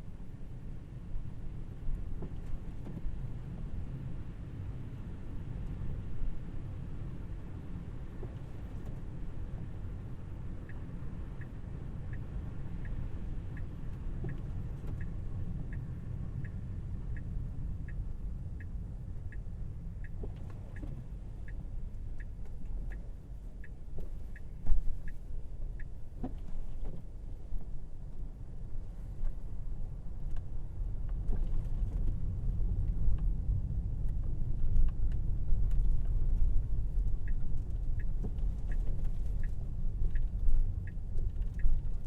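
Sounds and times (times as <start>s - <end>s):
road and tyre rumble: 0.0s - 42.0s
turn signal ticking: 7.9s - 42.0s.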